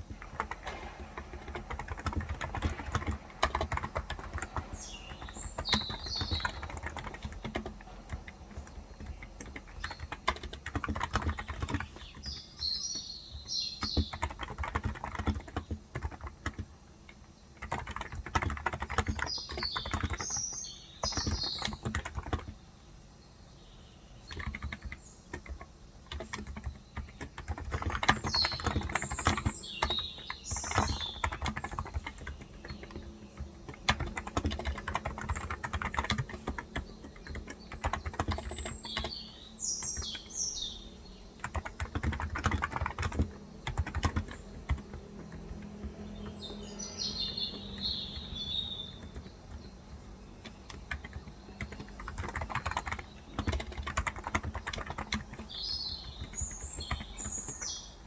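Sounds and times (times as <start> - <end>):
birds chirping: 0.0 - 16.6, 17.2 - 58.0
keyboard typing: 0.0 - 22.7, 24.2 - 58.0.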